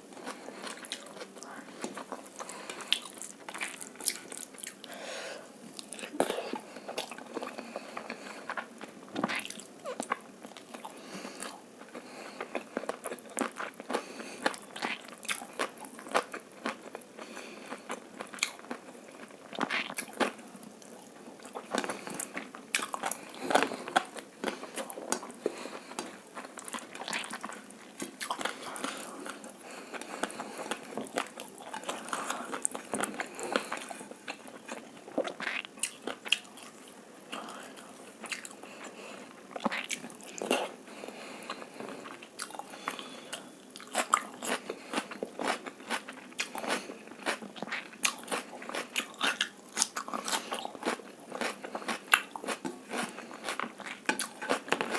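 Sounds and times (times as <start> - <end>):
close chewing and crunching: 0.0 - 5.0, 5.7 - 54.9.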